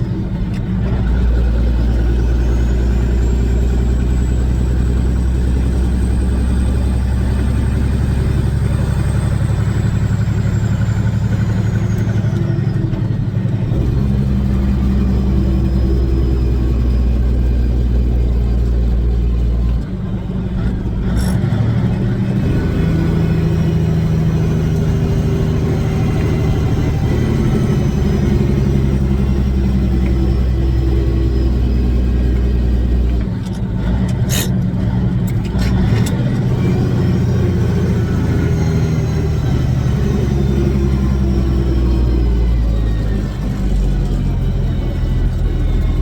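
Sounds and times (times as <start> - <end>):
truck diesel engine droning: 0.0 - 46.0.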